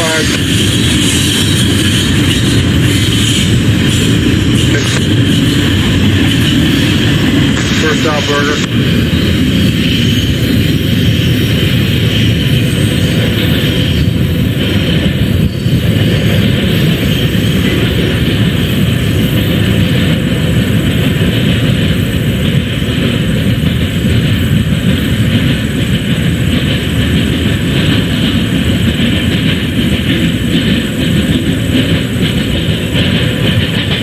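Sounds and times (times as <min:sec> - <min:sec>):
train rumbling past: 0:00.0 - 0:34.0.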